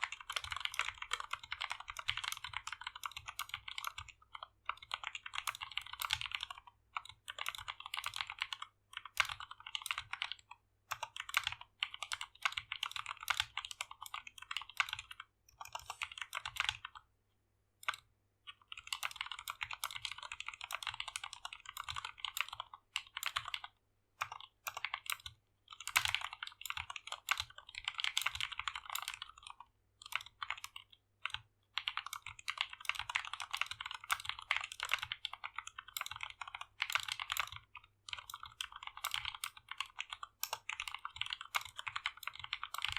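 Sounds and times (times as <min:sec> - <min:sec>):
mechanical keyboard typing: 0:00.0 - 0:17.1, 0:17.8 - 0:42.9.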